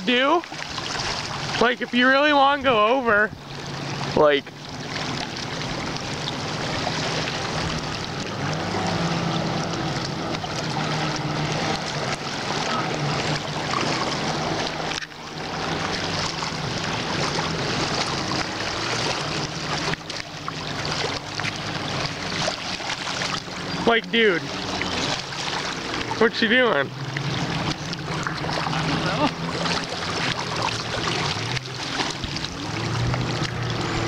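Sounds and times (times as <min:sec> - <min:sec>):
small waves lapping on rocks: 0:00.0 - 0:34.0.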